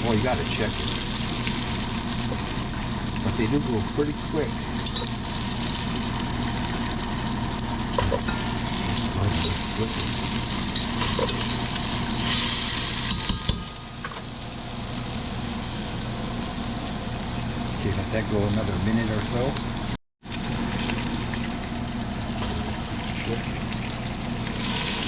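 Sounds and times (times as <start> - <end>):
chicken frying in hot oil: 0.0 - 25.0.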